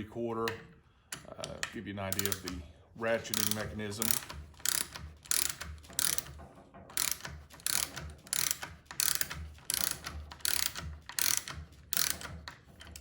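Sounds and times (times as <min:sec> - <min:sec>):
ratcheting wrench clicking: 0:00.4 - 0:13.0.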